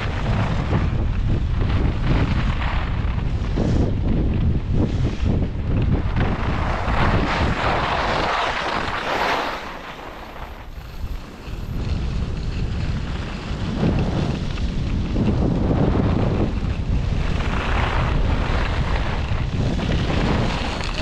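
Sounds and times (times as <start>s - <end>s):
skis scraping on snow: 0.0s - 21.0s
wind rushing over microphone: 0.0s - 21.0s.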